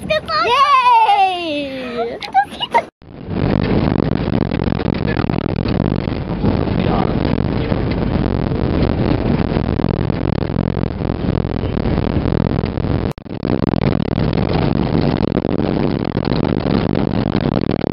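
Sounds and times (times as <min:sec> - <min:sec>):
vehicle engine running: 0:03.1 - 0:17.6.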